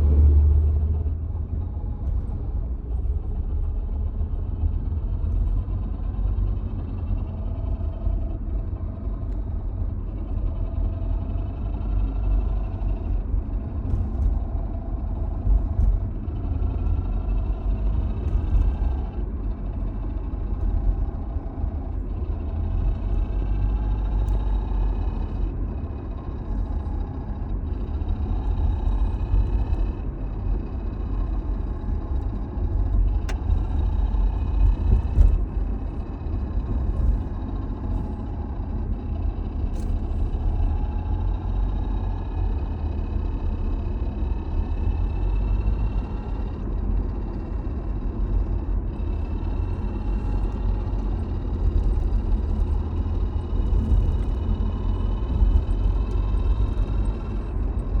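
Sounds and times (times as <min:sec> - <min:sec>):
car transmission whining: 0:00.0 - 0:58.0
low engine rumble: 0:00.0 - 0:58.0.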